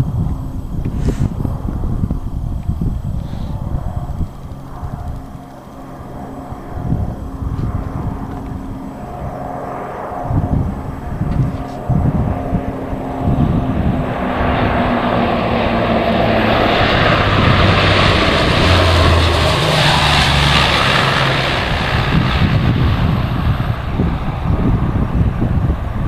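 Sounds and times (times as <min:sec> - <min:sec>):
propeller plane flying past: 0:00.0 - 0:26.0.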